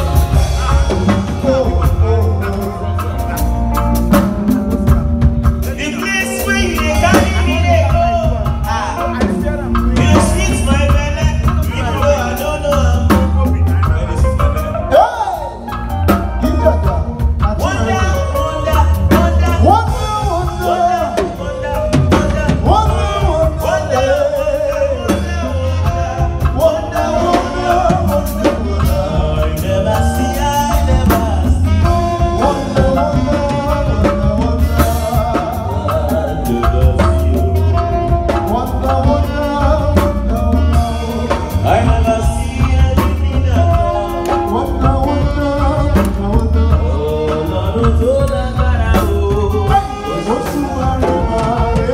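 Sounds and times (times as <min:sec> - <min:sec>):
bass guitar: 0:00.0 - 0:51.9
drum kit beat: 0:00.0 - 0:51.9
electric guitar lead line: 0:00.0 - 0:51.9
keyboard: 0:00.0 - 0:51.9.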